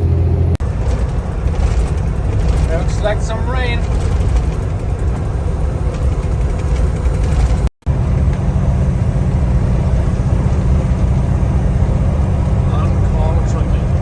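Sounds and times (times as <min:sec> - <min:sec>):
road noise inside cab: 0:00.0 - 0:14.0
truck engine rumble: 0:00.0 - 0:14.0.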